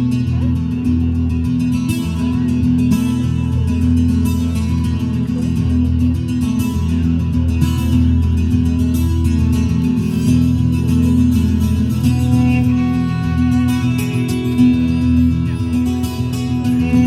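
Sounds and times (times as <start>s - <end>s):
guitar music: 0.0s - 17.0s.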